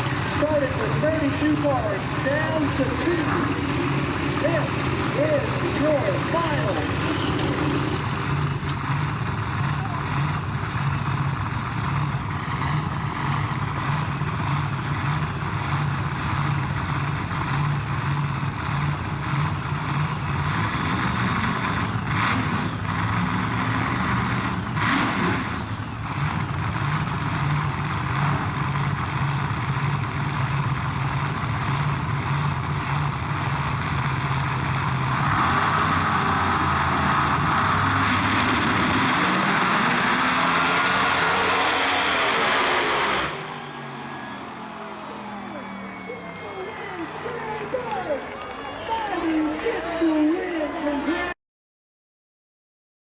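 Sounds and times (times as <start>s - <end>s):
higher engine drone: 0.0s - 48.4s
noisy engine bursts: 0.0s - 49.9s
race car engines idling: 0.0s - 51.3s.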